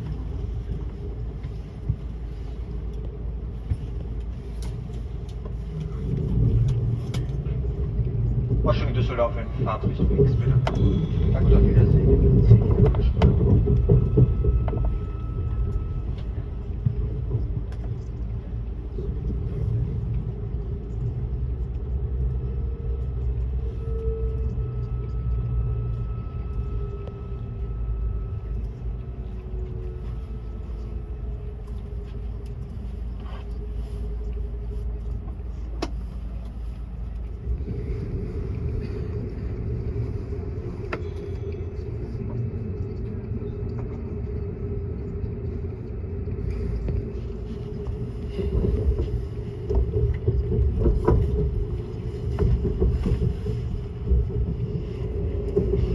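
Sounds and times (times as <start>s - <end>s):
train running low rumble: 0.0s - 55.9s.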